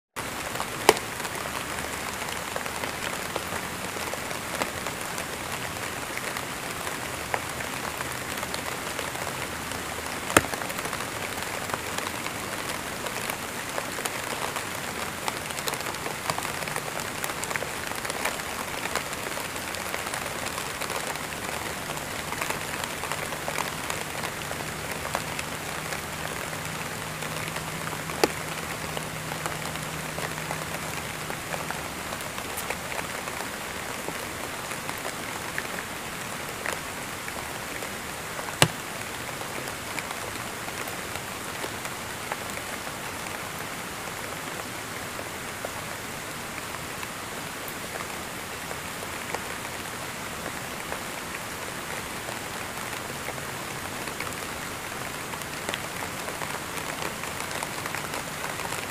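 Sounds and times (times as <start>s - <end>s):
steady rain falling: 0.1s - 58.9s.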